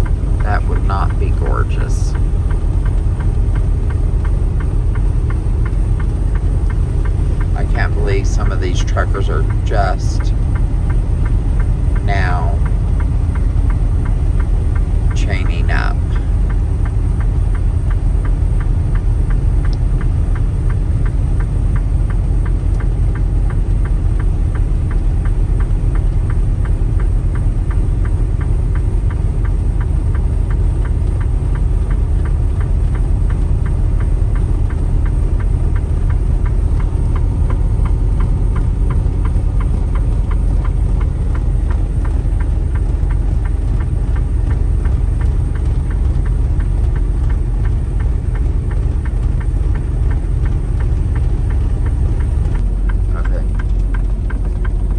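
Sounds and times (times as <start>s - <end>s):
fast even ticking: 0.0s - 54.9s
truck engine and road rumble: 0.0s - 54.9s.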